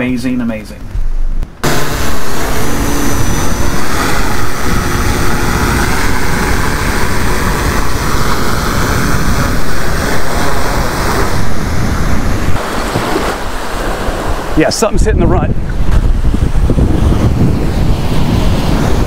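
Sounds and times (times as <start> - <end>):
wind rumbling on microphone: 0.0 - 19.0
surf on the beach: 1.6 - 19.0.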